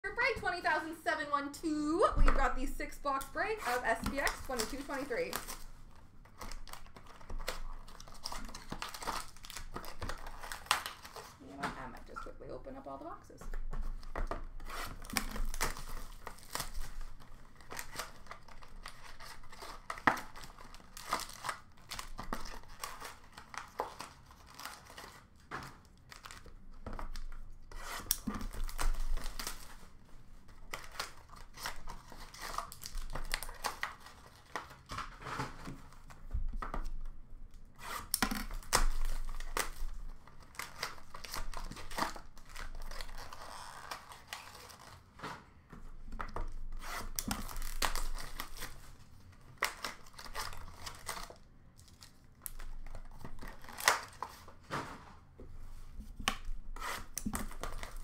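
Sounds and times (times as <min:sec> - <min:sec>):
shrink wrap and cardboard tearing: 0:02.3 - 0:12.2, 0:13.6 - 0:45.2, 0:46.2 - 0:54.8, 0:56.0 - 0:58.0.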